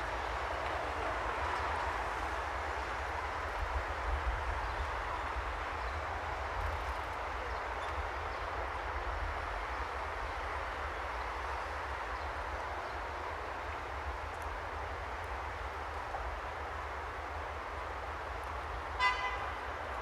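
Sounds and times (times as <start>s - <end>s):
wind rumble on microphone: 0.0s - 16.6s
road and traffic noise: 0.0s - 20.0s.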